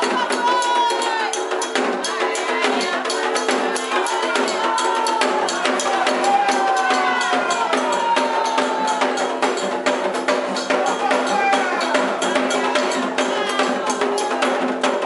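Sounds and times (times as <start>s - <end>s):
hand drums beating: 0.0s - 15.0s
struck bell rhythm: 0.0s - 15.0s
voices singing a chant: 0.0s - 15.0s.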